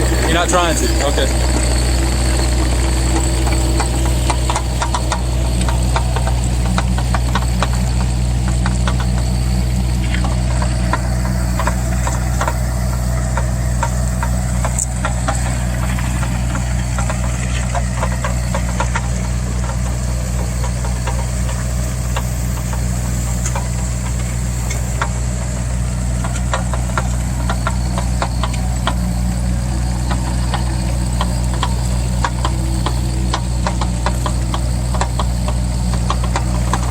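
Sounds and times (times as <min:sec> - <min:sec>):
excavator engine running: 0:00.0 - 0:36.9
machine clicks and rattles: 0:00.0 - 0:36.9.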